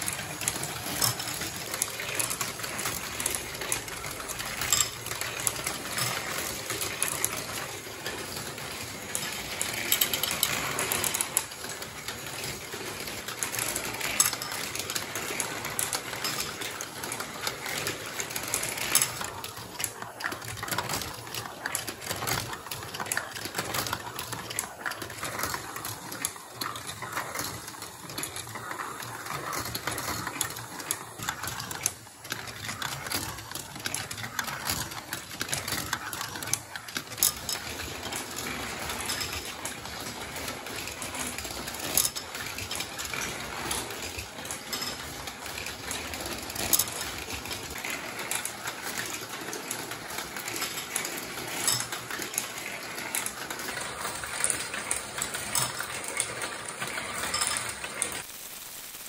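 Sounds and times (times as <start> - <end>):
marbles rattling through plastic run: 0.0 - 58.3.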